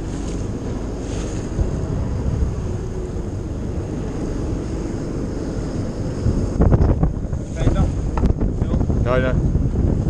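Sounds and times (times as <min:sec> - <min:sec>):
boat engines droning: 0:00.0 - 0:10.0
rushing wind: 0:00.0 - 0:10.0
sea noise: 0:00.0 - 0:10.0.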